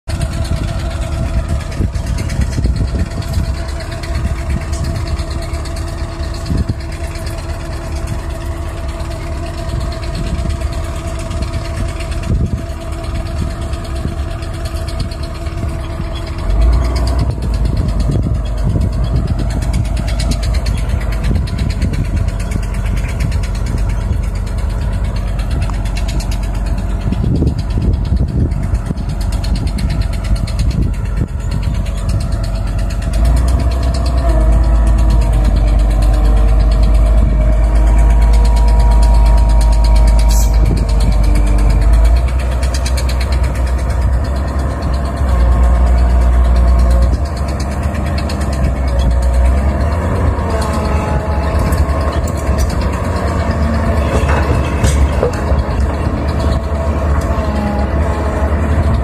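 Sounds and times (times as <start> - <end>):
dump truck engine: 0.0 - 59.0
excavator diesel engine running: 0.0 - 59.0.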